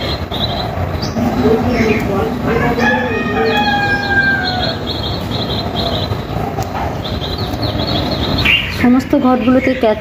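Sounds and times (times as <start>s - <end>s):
small birds chirping: 0.0s - 10.0s
steady low rumble: 0.0s - 10.0s.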